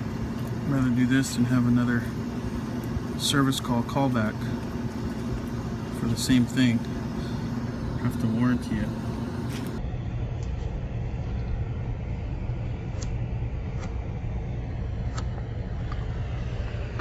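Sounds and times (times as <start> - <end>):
machinery rumble and hum: 0.0 - 17.0.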